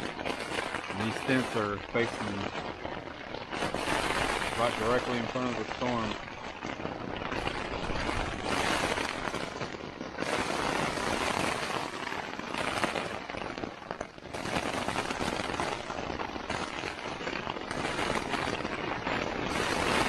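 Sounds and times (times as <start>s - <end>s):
gusting wind on tent: 0.0s - 20.0s
rain on tent fabric: 0.0s - 20.0s.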